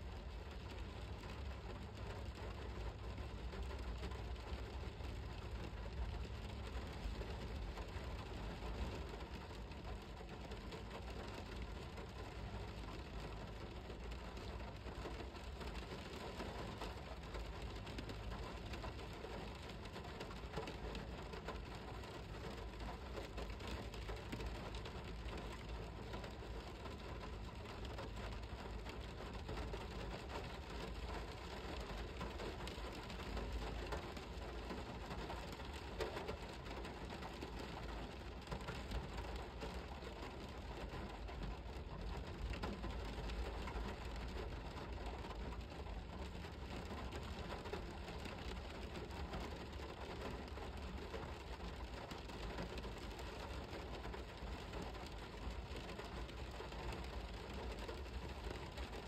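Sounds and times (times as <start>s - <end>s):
rain patter: 0.0s - 59.0s.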